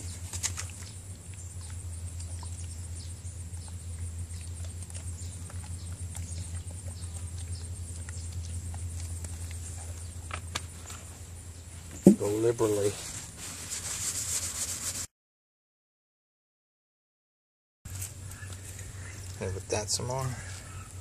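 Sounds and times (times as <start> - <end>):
steady low hum: 0.0 - 15.1, 17.9 - 21.0.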